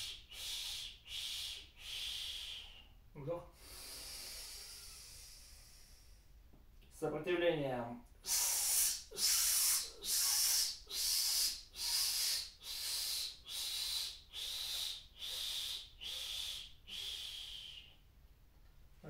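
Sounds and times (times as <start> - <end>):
man exhaling hissing puffs: 0.0 - 2.9, 3.5 - 6.3, 8.2 - 17.9.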